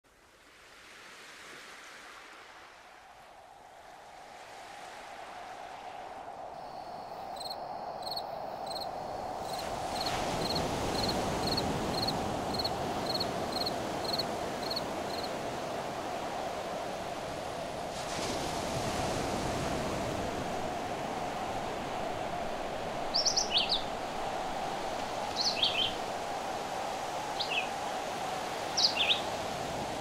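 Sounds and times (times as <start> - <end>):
wind: 0.0 - 30.0
waves washing on shore: 0.2 - 6.6, 8.8 - 30.0.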